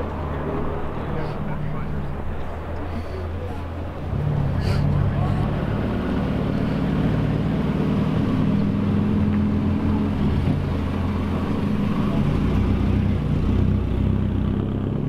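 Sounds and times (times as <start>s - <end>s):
background voices: 0.0s - 14.0s
car engine running: 0.0s - 15.0s.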